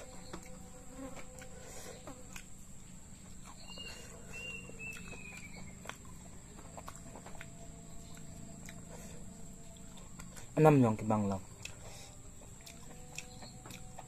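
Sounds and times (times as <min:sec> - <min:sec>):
faint steady hum: 0:00.0 - 0:14.0
chewing clicks: 0:00.2 - 0:02.6, 0:03.2 - 0:14.0.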